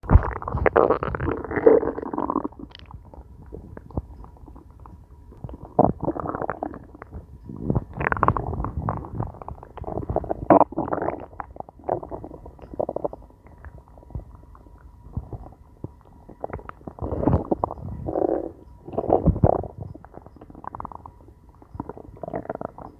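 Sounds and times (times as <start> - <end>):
stomach growling and gurgling: 0.0 - 22.9.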